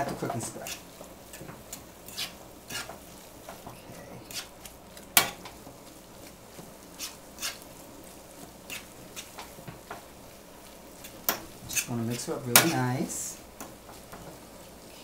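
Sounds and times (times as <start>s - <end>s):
metal utensil scraping frying pan: 0.0s - 7.7s, 8.4s - 10.1s, 10.9s - 14.3s
food sizzling faintly: 0.0s - 15.0s.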